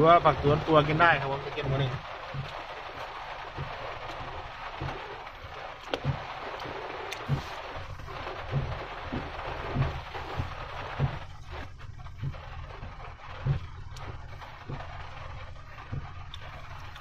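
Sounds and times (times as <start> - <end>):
low thumps: 0.0 - 17.0
rain and wind hissing: 0.0 - 17.0.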